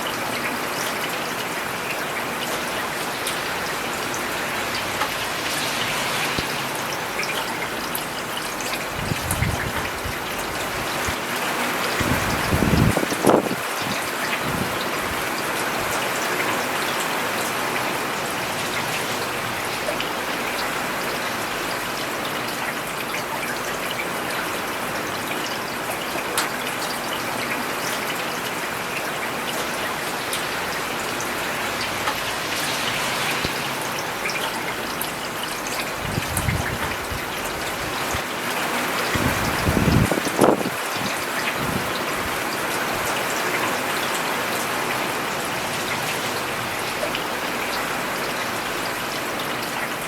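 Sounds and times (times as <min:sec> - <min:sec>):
rain on paved road: 0:00.0 - 0:50.0.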